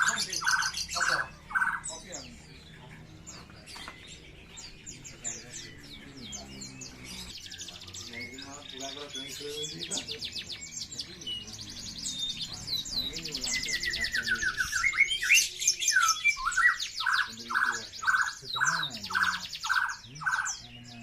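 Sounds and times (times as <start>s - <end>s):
canaries singing: 0.0s - 21.0s.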